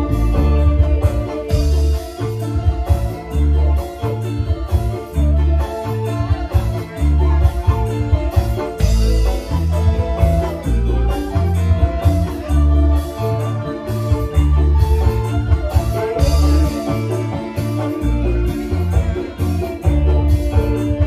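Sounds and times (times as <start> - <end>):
drums: 0.0 - 21.0
electric guitars: 0.0 - 21.0
heavy pulsing bass: 0.0 - 21.0
live band playing: 0.0 - 21.0.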